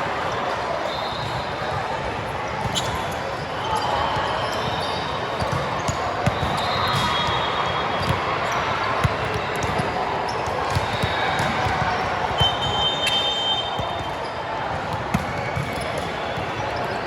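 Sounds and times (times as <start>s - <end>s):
murmur of voices: 0.0s - 17.0s
sneaker squeaks: 2.4s - 17.0s.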